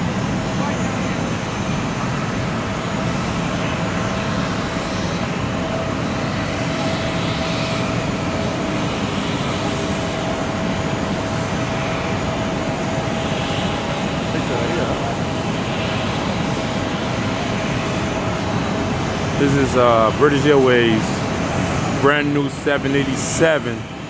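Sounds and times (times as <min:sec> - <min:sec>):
jet engines roaring: 0:00.0 - 0:24.0
steady engine whine: 0:00.0 - 0:24.0.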